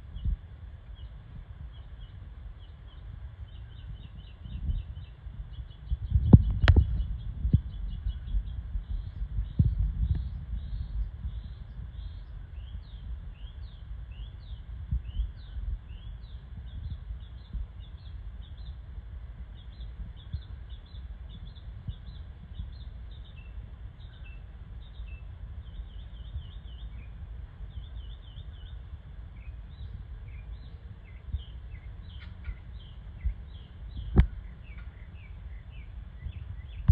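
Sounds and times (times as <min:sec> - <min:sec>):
small birds chirping: 0:00.0 - 0:36.9
steady low rumble: 0:00.0 - 0:36.9.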